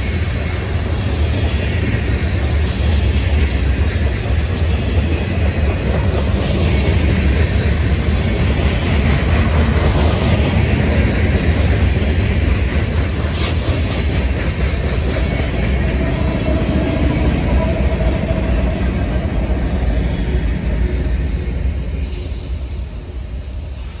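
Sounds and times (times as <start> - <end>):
diesel locomotives rumbling: 0.0 - 24.0
freight train cars rolling: 0.0 - 24.0.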